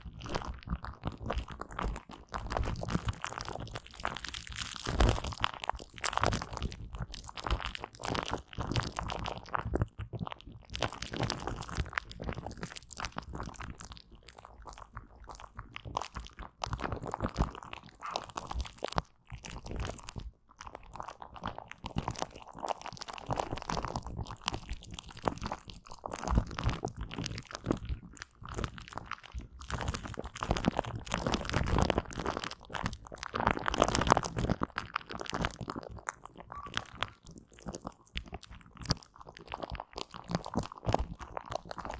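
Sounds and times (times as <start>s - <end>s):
gel squishing: 0.1s - 41.9s.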